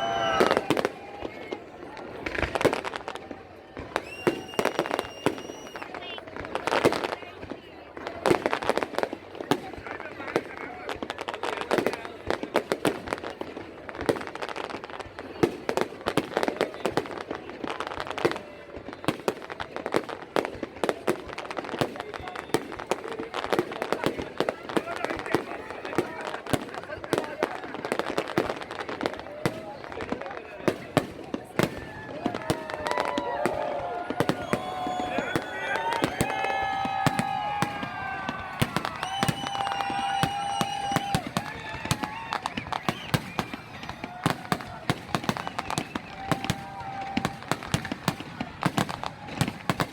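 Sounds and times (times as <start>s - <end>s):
crowd noise: 0.0s - 49.9s
fireworks bangs and crackles: 0.0s - 49.9s.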